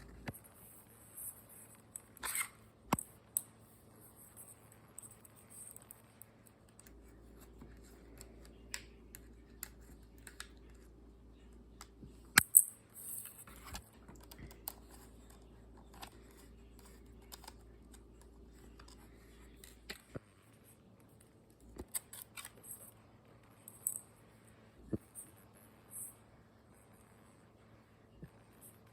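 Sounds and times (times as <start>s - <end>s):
faint steady low hum: 0.0s - 28.9s.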